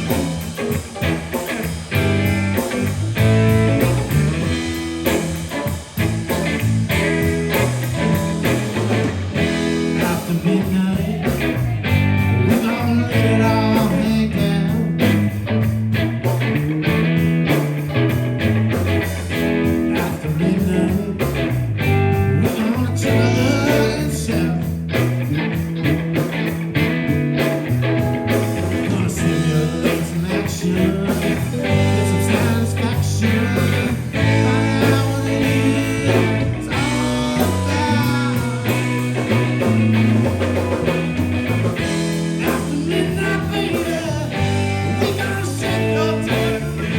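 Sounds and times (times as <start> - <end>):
bass line: 0.0 - 46.9
blues-rock band playing: 0.0 - 46.9
electric guitar: 0.0 - 46.9
steady drum beat: 0.0 - 46.9.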